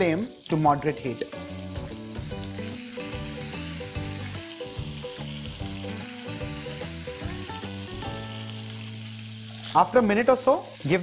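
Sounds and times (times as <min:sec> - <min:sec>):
background music: 0:00.0 - 0:11.0
fish sizzling in hot oil: 0:00.0 - 0:11.0.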